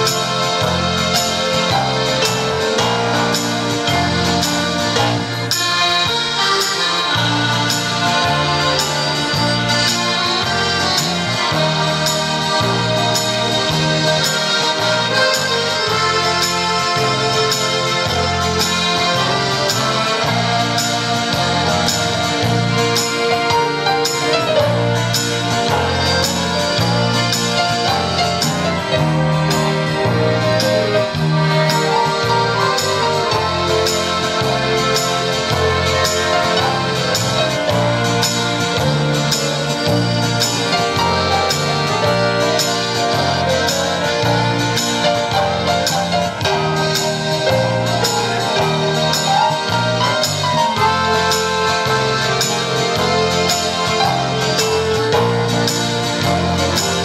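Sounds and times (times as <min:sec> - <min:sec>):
piano accordion playing a tune: 0:00.0 - 0:57.0
steady beat: 0:00.0 - 0:57.0.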